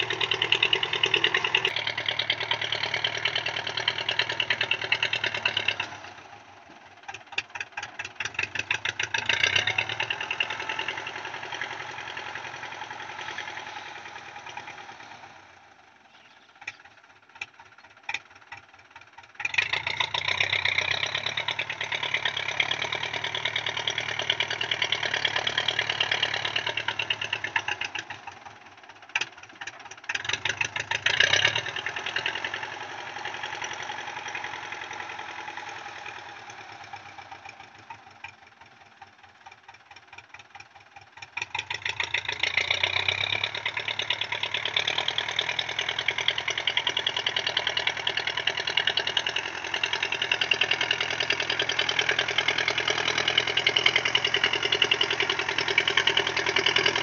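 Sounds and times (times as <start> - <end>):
tractor diesel engine clatter: 0.0 - 57.0.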